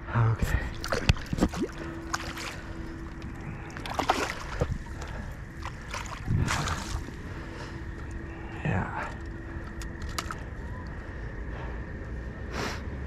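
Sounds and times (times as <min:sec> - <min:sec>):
water splashing and sloshing: 0:00.4 - 0:11.5.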